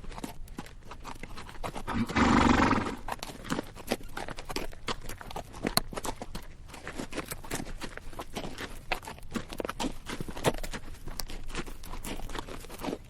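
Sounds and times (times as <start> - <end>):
horse hooves clip-clopping on rocks: 0.0 - 13.0
saddle creaking: 0.0 - 13.0.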